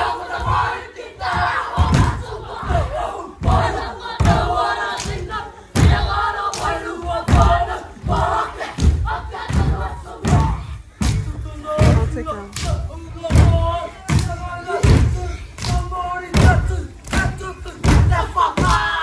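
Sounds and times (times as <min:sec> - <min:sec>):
group chanting and shouting: 0:00.0 - 0:19.0
heavy foot stamps on stage: 0:00.0 - 0:19.0.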